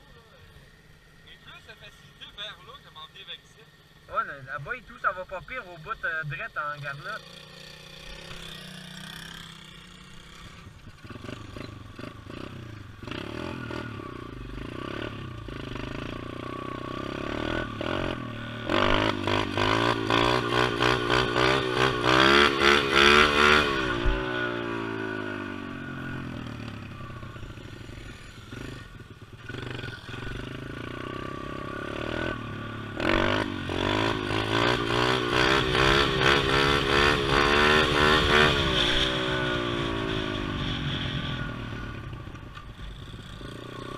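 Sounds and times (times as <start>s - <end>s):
small motorbike engine revving: 6.8s - 43.9s.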